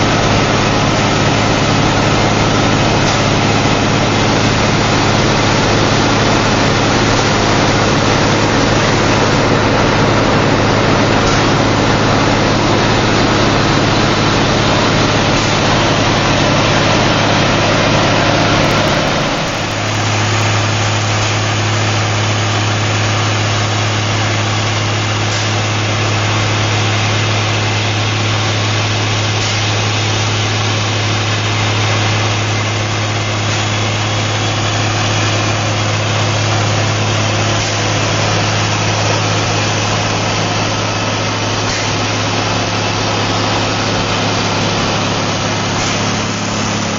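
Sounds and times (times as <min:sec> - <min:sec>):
air compressor hiss: 0:00.0 - 0:46.9
drill rig diesel engine drone: 0:00.0 - 0:46.9.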